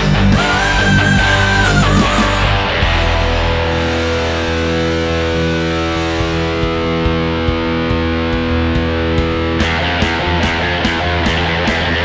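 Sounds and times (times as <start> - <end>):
backing track with drum beat: 0.0 - 12.0
overdriven electric guitar: 0.0 - 12.0.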